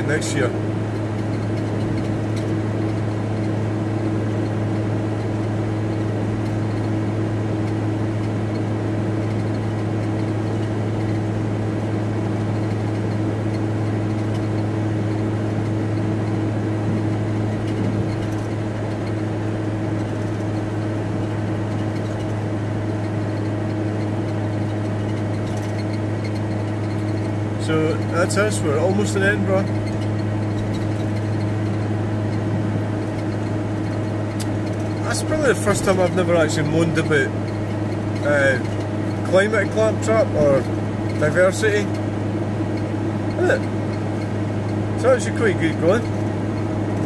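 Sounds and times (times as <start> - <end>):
van engine and road drone: 0.0 - 47.0.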